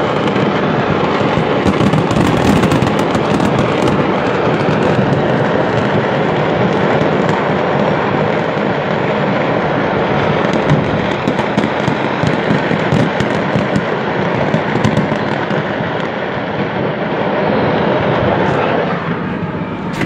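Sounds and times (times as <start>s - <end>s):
fireworks crackling and cracking: 0.0s - 20.0s.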